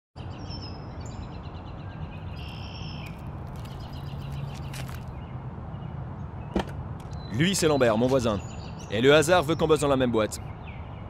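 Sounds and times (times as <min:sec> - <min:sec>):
small birds chirping and trilling: 0:00.2 - 0:11.0.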